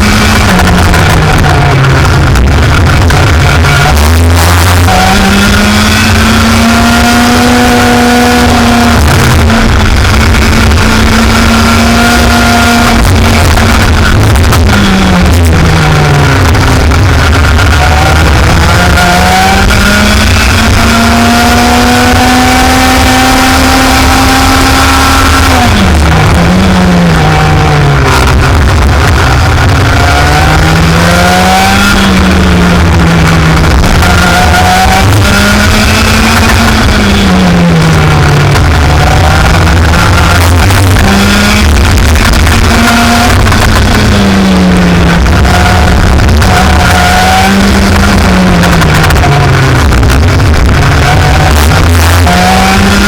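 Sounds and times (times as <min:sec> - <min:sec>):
racing kart engine revving: 0:00.0 - 0:53.0.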